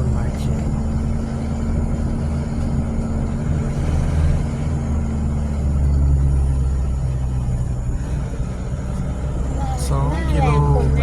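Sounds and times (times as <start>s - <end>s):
car engine and road drone: 0.0s - 11.0s.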